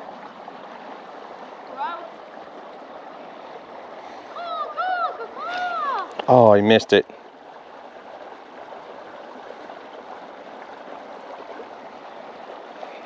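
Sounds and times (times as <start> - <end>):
background rush by open water: 0.0 - 13.0.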